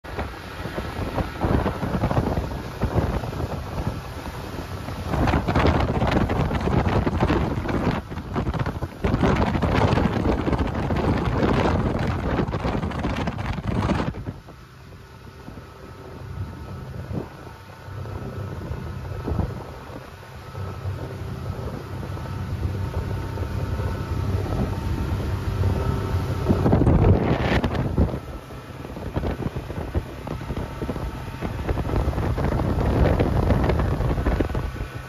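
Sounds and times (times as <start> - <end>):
motorboat motor drone: 0.0 - 35.0
wind buffeting microphone: 0.0 - 35.0.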